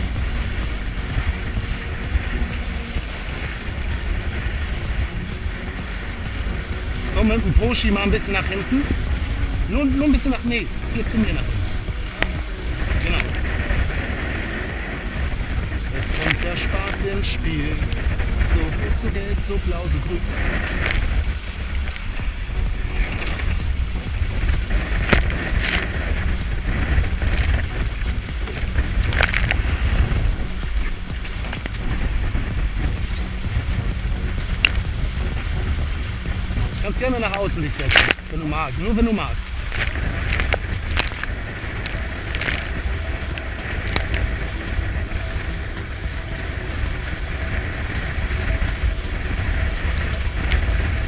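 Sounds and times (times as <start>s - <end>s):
water rushing along hulls: 0.0s - 51.0s
wind rumbling on microphone: 0.0s - 51.0s.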